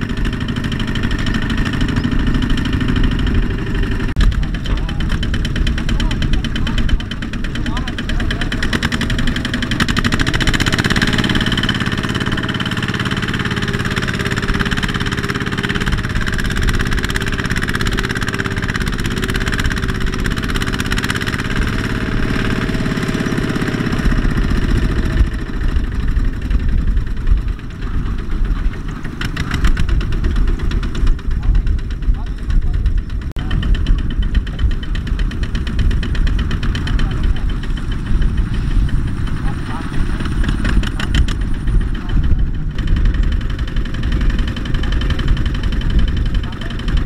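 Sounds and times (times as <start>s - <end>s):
diesel engine straining under load: 0.0s - 47.0s.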